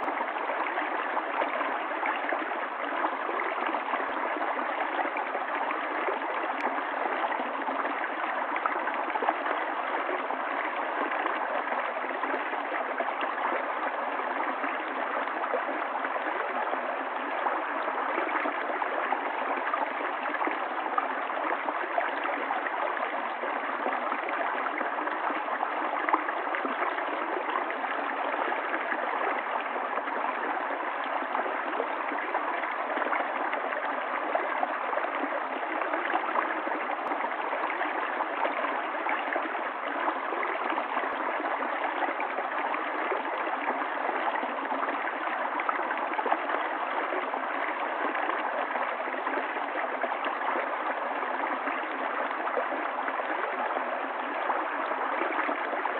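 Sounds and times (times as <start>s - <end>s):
stream water running: 0.0s - 55.9s.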